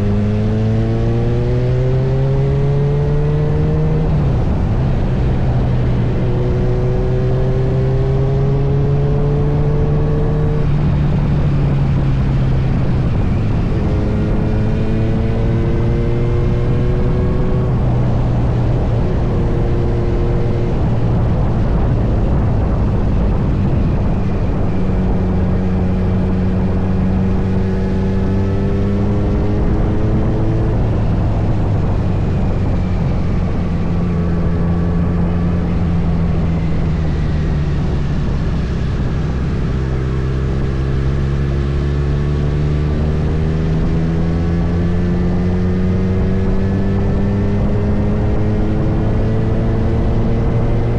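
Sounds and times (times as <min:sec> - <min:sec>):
motorcycle engine revving: 0:00.0 - 0:50.9
steady rushing noise: 0:00.0 - 0:50.9.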